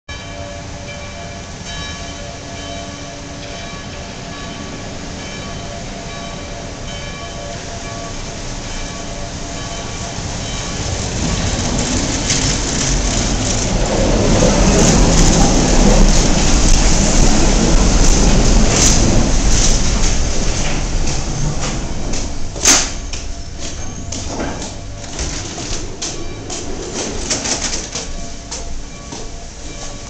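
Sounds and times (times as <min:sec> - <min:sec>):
suspended monorail car arriving: 0:00.1 - 0:30.0.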